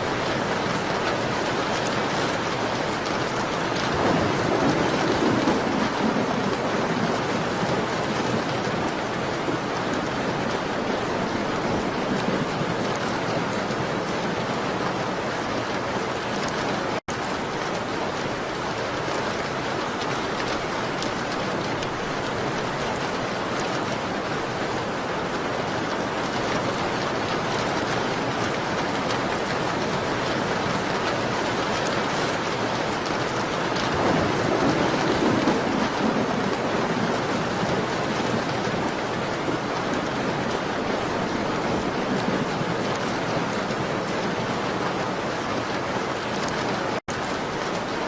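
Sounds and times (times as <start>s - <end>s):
rain on a window: 0.0s - 48.0s.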